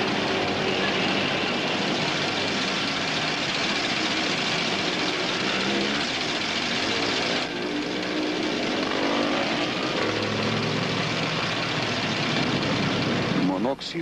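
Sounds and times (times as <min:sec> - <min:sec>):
car engine running: 0:00.0 - 0:13.7.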